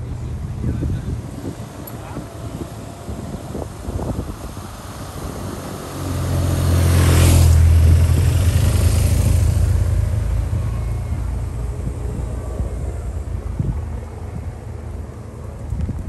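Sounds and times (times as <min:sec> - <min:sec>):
motorcycles passing: 0:00.0 - 0:16.0.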